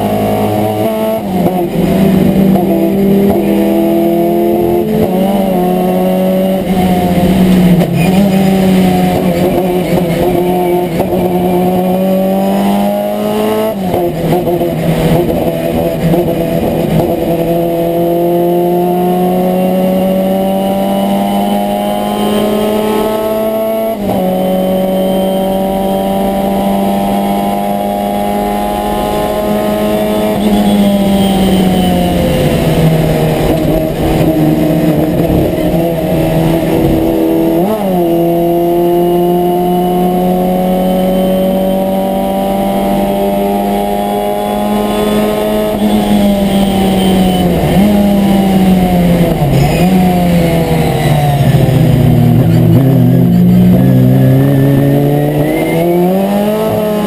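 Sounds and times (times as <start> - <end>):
racing engine revving: 0.0 - 57.0.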